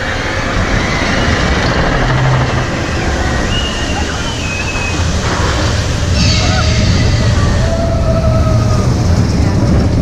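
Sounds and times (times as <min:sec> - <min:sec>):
high squeals: 0:00.0 - 0:09.2
roller coaster rumbling on track: 0:00.0 - 0:10.0.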